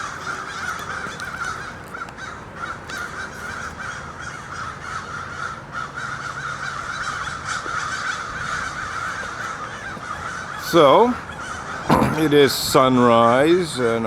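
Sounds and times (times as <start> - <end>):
crows cawing: 0.0 - 14.0.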